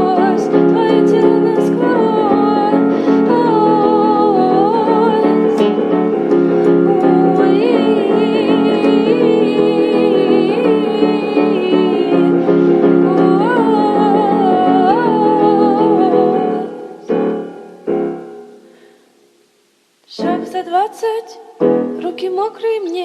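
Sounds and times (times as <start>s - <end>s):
sustained keyboard and piano chords: 0.0s - 18.6s.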